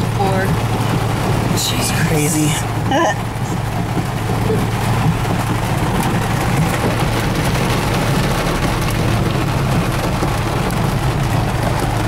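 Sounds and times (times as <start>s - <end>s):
engine hum: 0.0s - 12.0s
heavy rain on vehicle roof: 0.0s - 12.0s.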